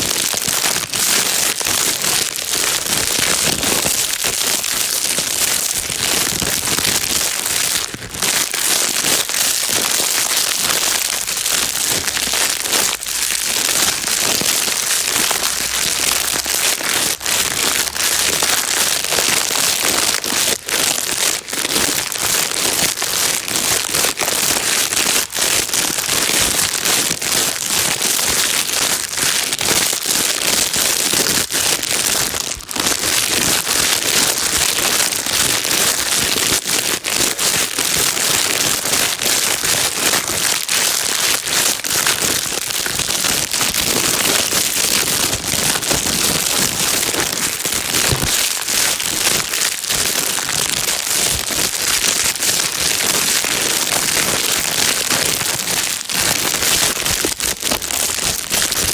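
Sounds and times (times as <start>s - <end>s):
plastic bag crinkling: 0.0s - 58.9s.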